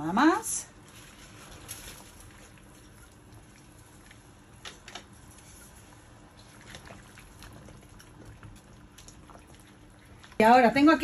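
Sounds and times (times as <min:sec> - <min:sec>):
boiling water bubbling: 0:00.1 - 0:11.0.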